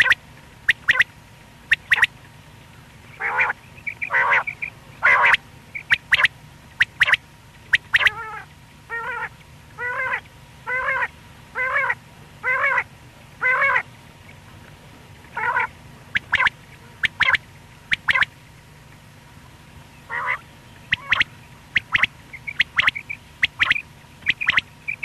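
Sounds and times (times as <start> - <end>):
quail calling: 0.0 - 1.1, 1.7 - 2.2, 3.1 - 13.9, 15.3 - 18.3, 20.0 - 25.0.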